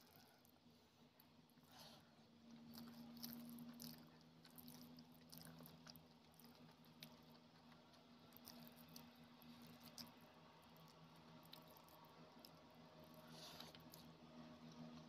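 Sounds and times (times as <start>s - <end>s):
faint steady hum: 0.0s - 15.0s
fingers squishing rice and gravy: 0.0s - 15.0s
mouth chewing rice: 0.0s - 15.0s.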